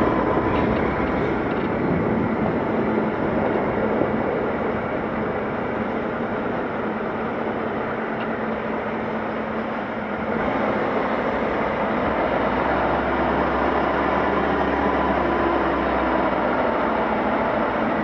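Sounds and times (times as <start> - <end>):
low drone: 0.0 - 18.0
truck engine and road noise: 0.0 - 18.0.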